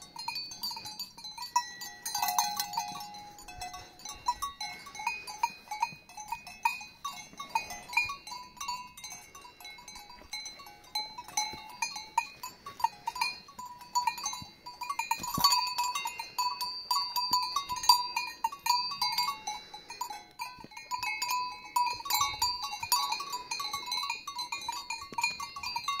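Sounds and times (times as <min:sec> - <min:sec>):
horse bells clanking: 0:00.0 - 0:26.0.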